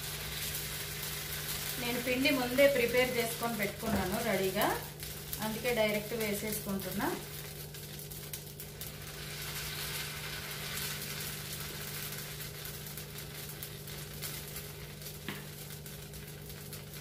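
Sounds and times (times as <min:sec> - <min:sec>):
batter sizzling on hot pan: 0:00.0 - 0:17.0
low steady hum: 0:00.0 - 0:17.0.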